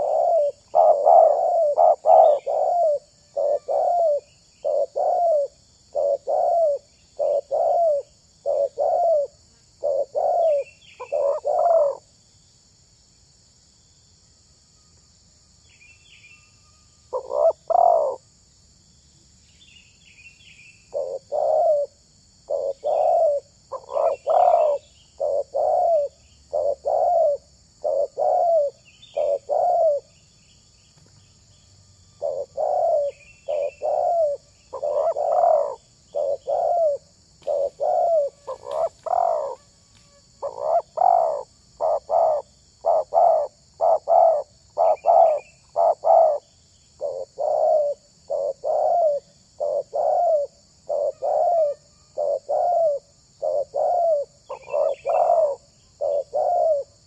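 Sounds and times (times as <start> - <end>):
dove cooing: 0.0 - 12.0, 17.1 - 18.2, 20.9 - 30.1, 32.2 - 39.6, 40.4 - 57.0
faint small bird chirps: 0.0 - 12.1, 14.7 - 18.3, 19.2 - 39.6, 40.4 - 57.0.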